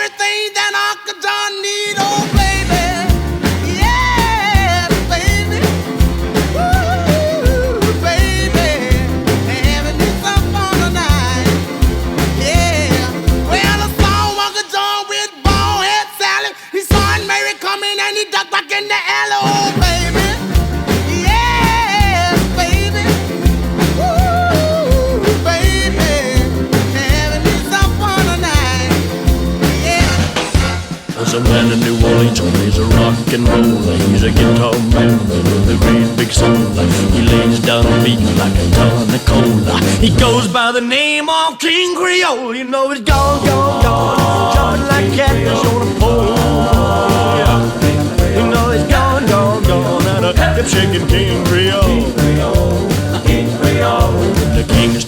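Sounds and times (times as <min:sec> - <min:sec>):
rock and roll music: 0:00.0 - 0:55.0.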